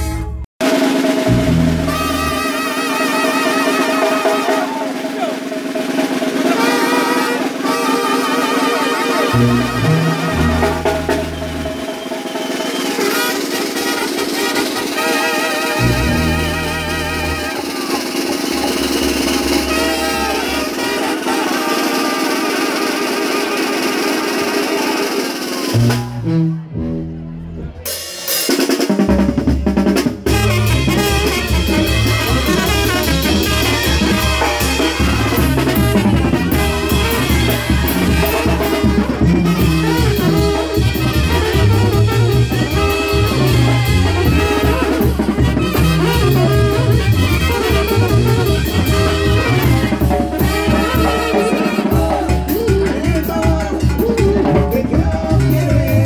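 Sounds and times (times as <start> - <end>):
brass band with drum kit: 0.0 - 56.0.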